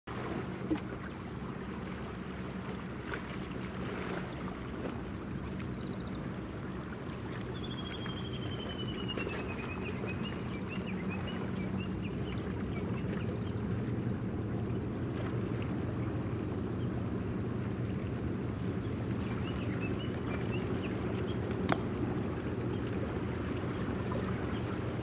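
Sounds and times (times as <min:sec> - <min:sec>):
ship turbine drone: 0:00.1 - 0:25.0.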